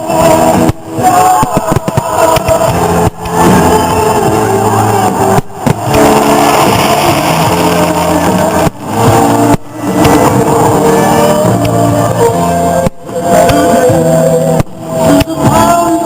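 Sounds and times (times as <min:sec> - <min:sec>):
song playing loud: 0:00.0 - 0:16.0.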